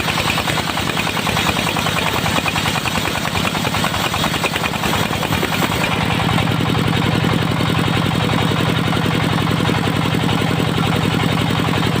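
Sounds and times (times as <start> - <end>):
sawmill engine chugging: 0.0 - 12.0.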